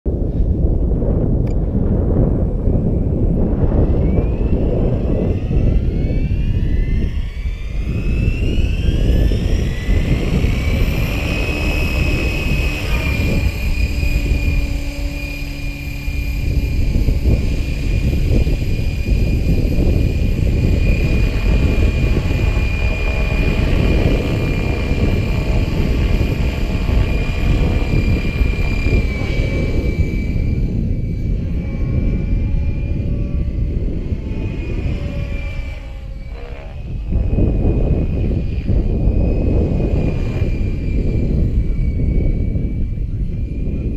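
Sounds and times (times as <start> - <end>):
wind noise on microphone: 0.0 - 43.9
rc helicopter rotor whine: 0.1 - 43.9.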